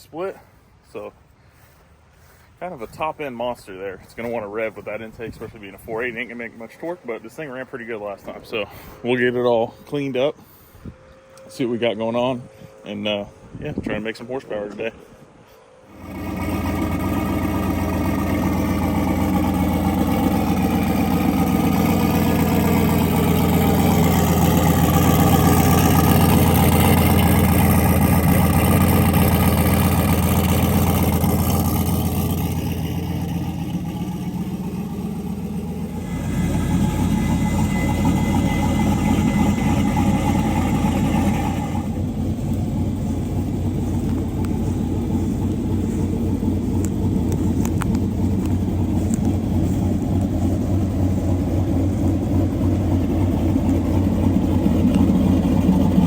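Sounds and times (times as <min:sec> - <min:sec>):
truck engine running: 0:00.0 - 0:10.3, 0:15.9 - 0:56.0.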